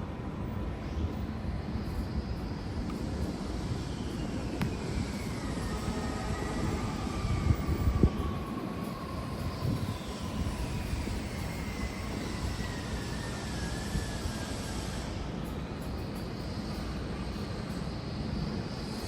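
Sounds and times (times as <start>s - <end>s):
city street rumble: 0.0s - 19.0s.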